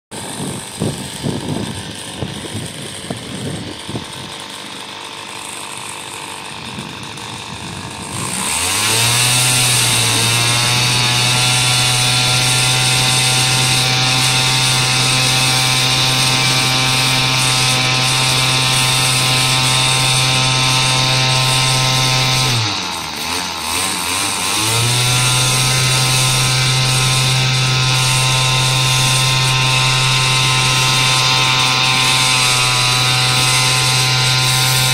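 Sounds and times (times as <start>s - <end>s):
small two-stroke engine revving: 0.1s - 34.9s.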